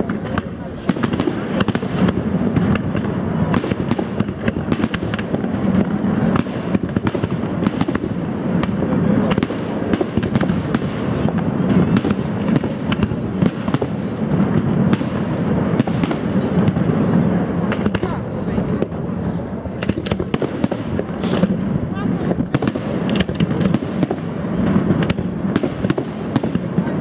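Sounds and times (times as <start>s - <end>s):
fireworks cracking: 0.0s - 27.0s
low rumble of fireworks: 0.0s - 27.0s.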